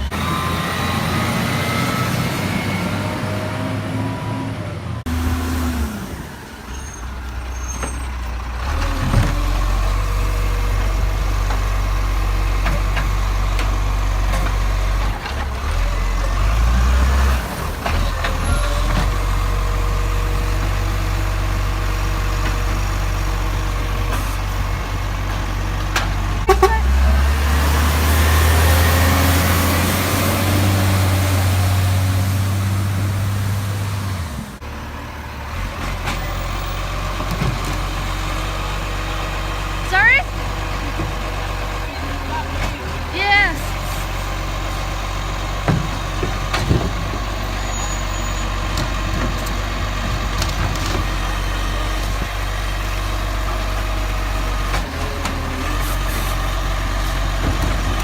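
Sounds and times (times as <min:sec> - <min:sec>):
garbage truck engine running: 0:00.0 - 0:58.0.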